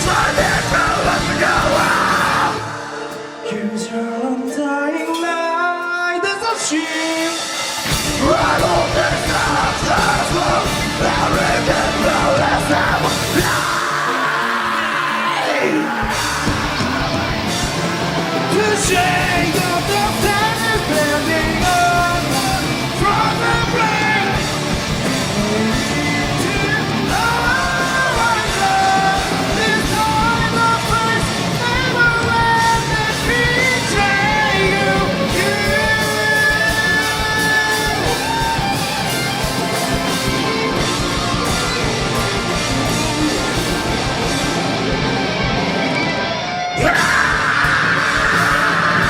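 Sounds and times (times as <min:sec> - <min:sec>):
fast drums: 0:00.0 - 0:03.3, 0:06.3 - 0:49.0
distorted guitars: 0:00.0 - 0:49.0.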